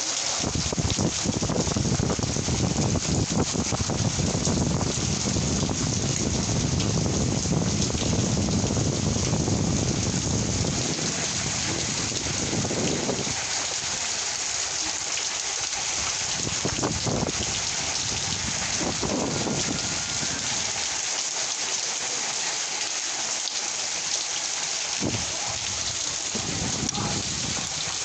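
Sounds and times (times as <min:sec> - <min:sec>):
close raindrops: 0:00.0 - 0:28.0
heavy rain falling: 0:00.0 - 0:28.0.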